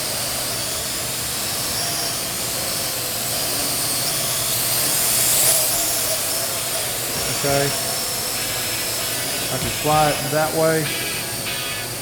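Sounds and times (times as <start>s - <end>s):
drone propellers whirring: 0.0s - 12.0s.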